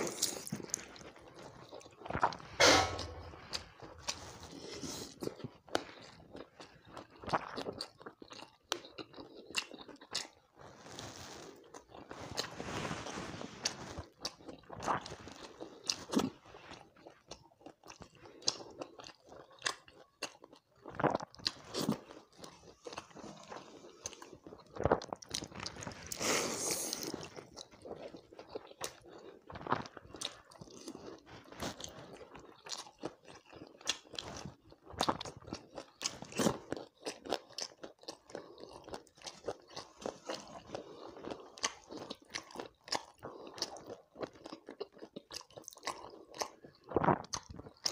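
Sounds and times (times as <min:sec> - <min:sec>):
person chewing and crunching: 0:00.0 - 0:47.9.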